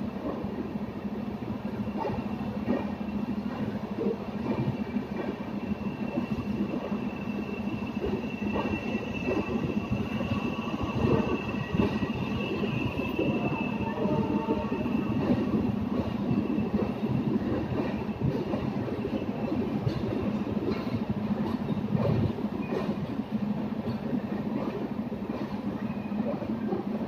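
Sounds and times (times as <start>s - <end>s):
train wheels rumbling and knocking: 0.0s - 27.0s.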